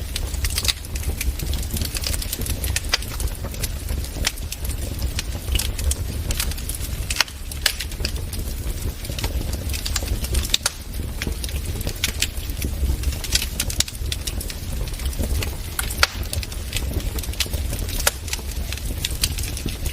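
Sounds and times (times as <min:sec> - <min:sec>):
burning wood pops and snaps: 0:00.0 - 0:19.9
low rumble of flames: 0:00.0 - 0:19.9.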